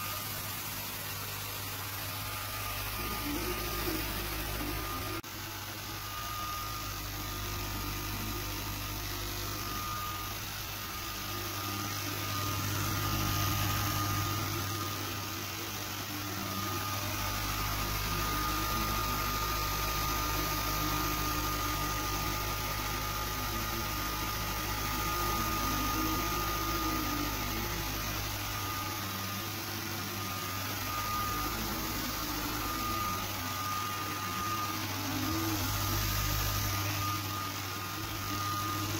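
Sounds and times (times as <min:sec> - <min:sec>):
steady hum: 0:00.0 - 0:38.9
stepper motors whining: 0:00.0 - 0:38.9.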